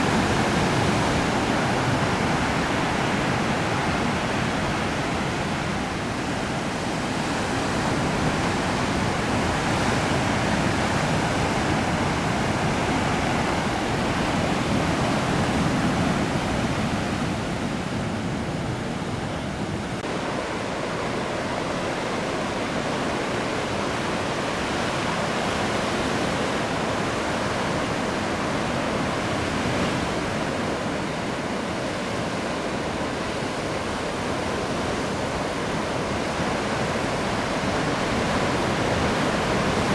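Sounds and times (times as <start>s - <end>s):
heavy ocean surf: 0.0s - 39.9s.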